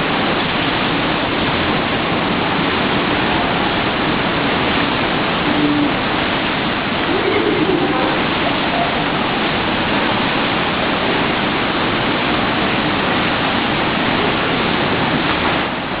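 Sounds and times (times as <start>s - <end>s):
water rushing in a pool: 0.0s - 16.0s.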